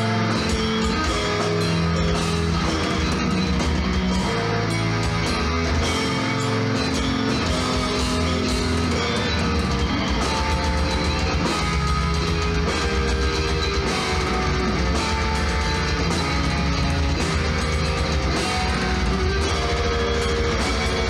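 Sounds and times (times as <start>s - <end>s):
heavy metal band playing live: 0.0s - 21.0s.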